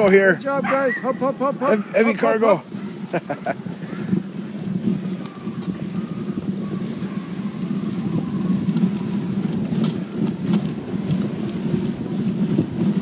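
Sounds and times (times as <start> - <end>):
sled runners scraping over snow: 0.0 - 13.0.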